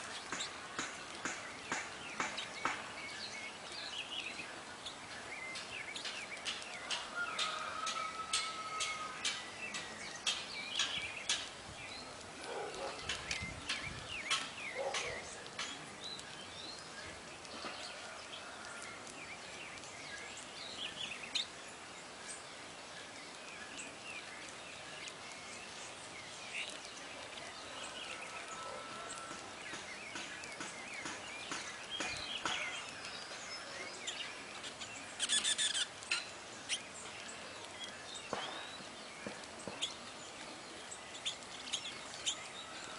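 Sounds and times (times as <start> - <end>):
background hiss: 0.0 - 42.9
songbirds chirping: 0.0 - 42.9.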